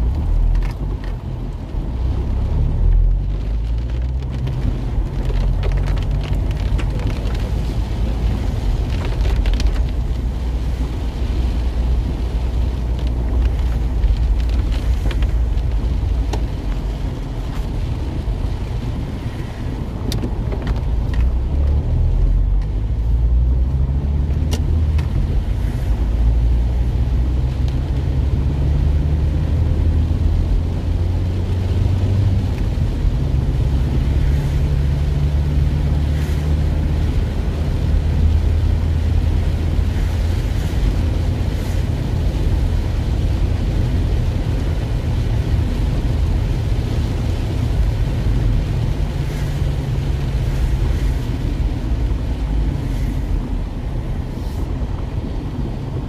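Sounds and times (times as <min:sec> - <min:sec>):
engine and tyre rumble: 0:00.0 - 0:56.0
rain hitting windshield: 0:00.0 - 0:56.0.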